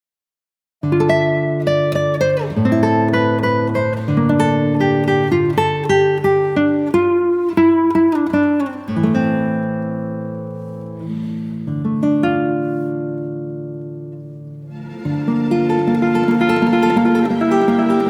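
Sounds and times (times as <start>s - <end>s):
acoustic guitar playing: 0.8s - 18.0s.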